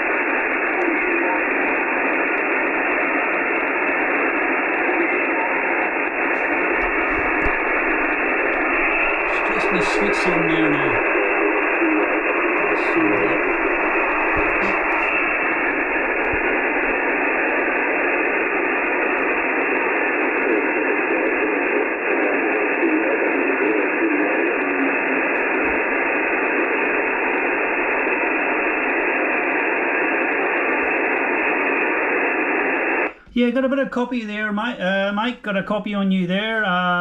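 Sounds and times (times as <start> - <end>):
radio speaker hiss: 0.0 - 37.0
weak radio voice signal: 0.0 - 37.0.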